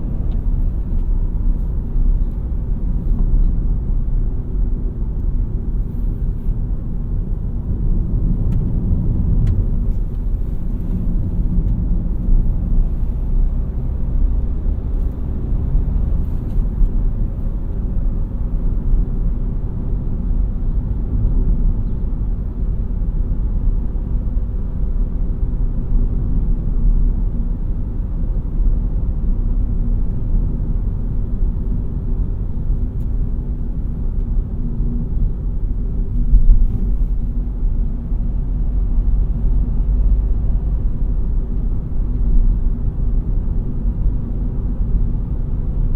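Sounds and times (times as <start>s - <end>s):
car engine and road noise rumble: 0.0s - 45.9s.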